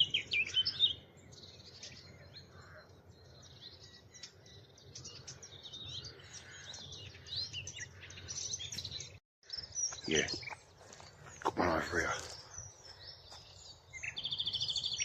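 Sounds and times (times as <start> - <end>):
distant songbirds singing: 0.0 - 15.0.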